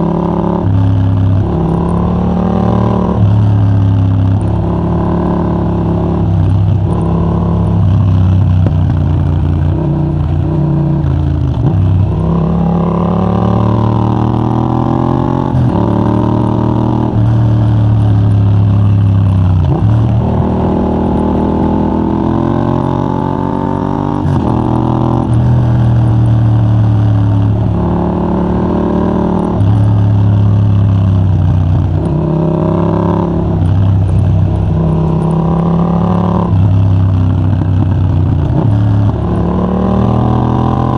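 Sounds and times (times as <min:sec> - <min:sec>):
motorcycle engine accelerating through gears: 0:00.0 - 0:40.9.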